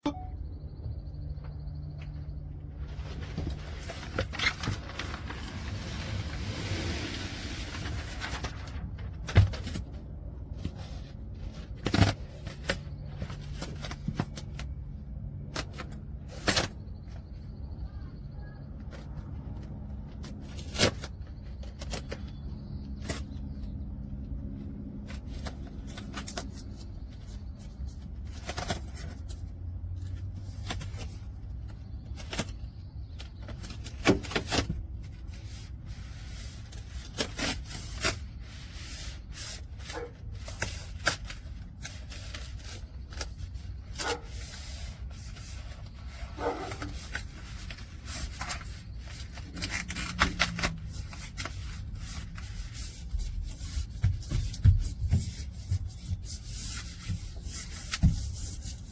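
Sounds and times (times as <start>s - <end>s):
low steady hum: 0.0s - 58.9s.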